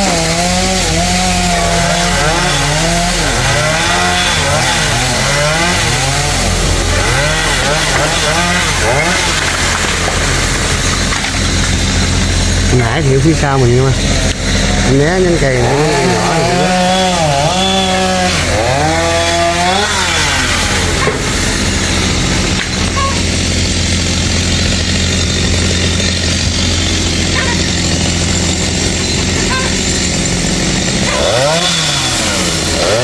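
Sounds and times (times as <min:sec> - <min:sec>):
chainsaw revving and cutting wood: 0:00.0 - 0:33.0.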